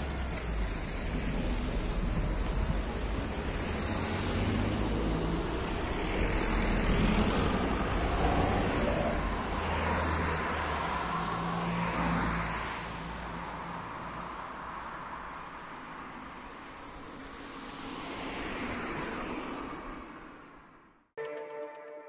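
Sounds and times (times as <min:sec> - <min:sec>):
cars and bus driving past: 0:00.0 - 0:21.0.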